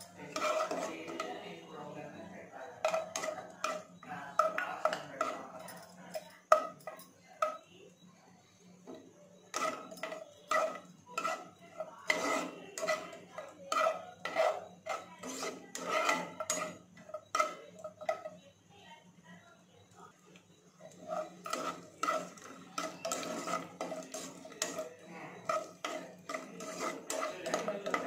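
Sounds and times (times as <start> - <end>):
ladle scraping against a pan: 0.0 - 7.5, 8.9 - 18.4, 20.7 - 28.0
nuts frying in a pan: 0.0 - 7.7, 9.3 - 18.5, 19.9 - 28.0.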